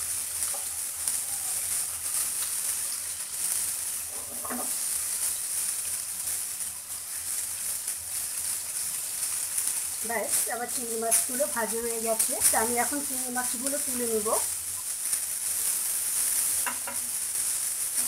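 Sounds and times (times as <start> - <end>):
prawns sizzling in frying pan: 0.0 - 18.0
spatula turning food in pan: 0.0 - 18.0.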